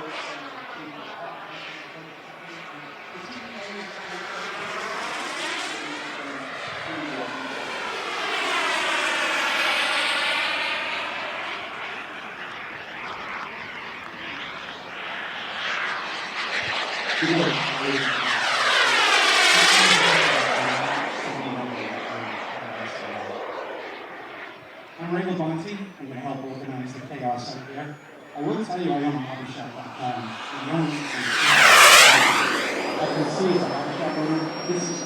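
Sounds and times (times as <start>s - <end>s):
model jet turbine passing overhead: 0.0s - 35.0s.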